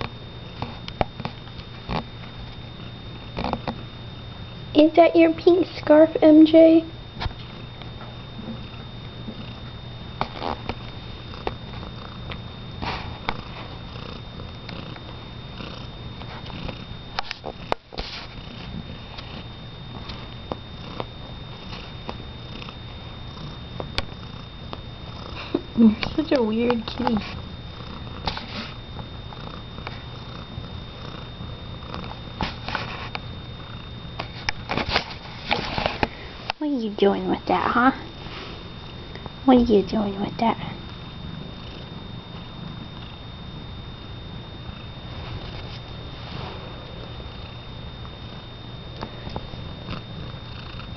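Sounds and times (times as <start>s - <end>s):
cat purring: 0.0s - 3.8s, 8.4s - 34.7s, 35.4s - 43.8s, 44.5s - 50.9s.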